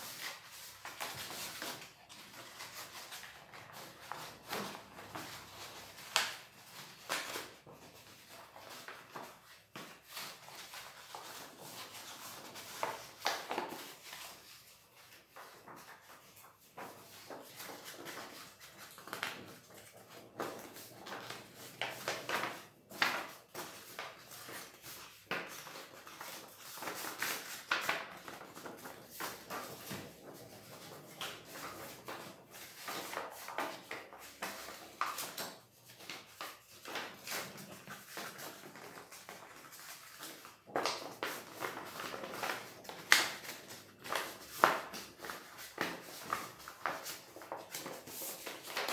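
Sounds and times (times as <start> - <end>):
stiff paper rustling and crackling: 0.0 - 48.9.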